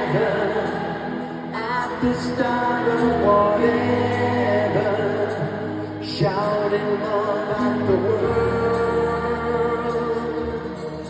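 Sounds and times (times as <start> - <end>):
keyboard chords: 0.0 - 11.0
live pop band playing: 0.0 - 11.0
man singing: 0.0 - 11.0.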